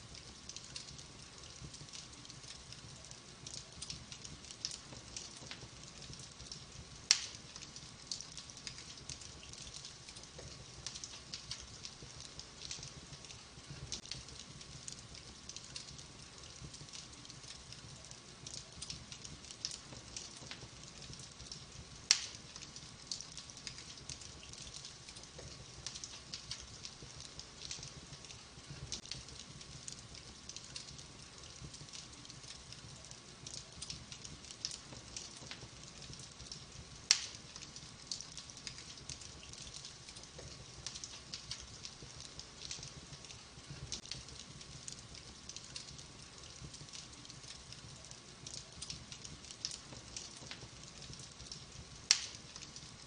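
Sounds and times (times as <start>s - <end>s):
faint steady hum: 0.0s - 53.0s
logs crackling in fireplace: 0.0s - 53.0s
sharp fire pops: 0.2s - 53.0s.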